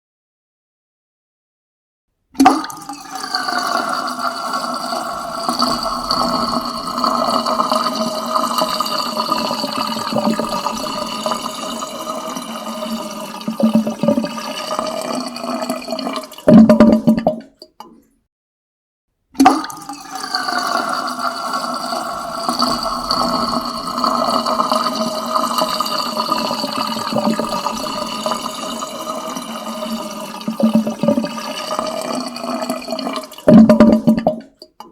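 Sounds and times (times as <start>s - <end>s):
water draining down plughole: 2.4s - 17.4s, 19.4s - 34.9s
drain gurgling slurps: 2.4s - 18.1s, 19.4s - 34.9s.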